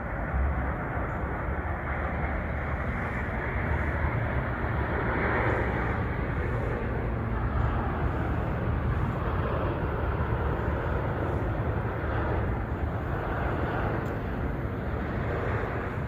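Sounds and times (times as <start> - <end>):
jet airliner rumble: 0.0 - 16.0.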